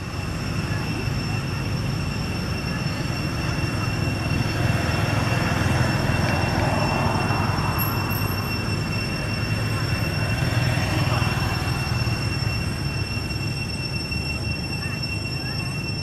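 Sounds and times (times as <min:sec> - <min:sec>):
engine rumble: 0:00.0 - 0:16.0
high-pitched whining tones: 0:00.0 - 0:16.0.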